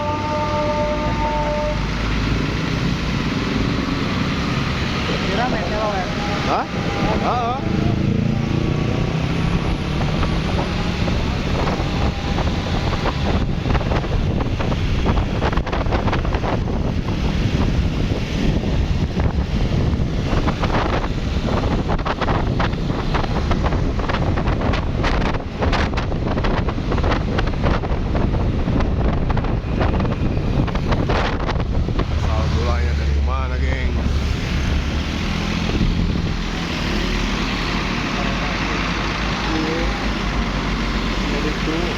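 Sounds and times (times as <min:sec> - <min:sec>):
road sounds: 0:00.0 - 0:41.9
wind buffeting microphone: 0:01.8 - 0:38.0.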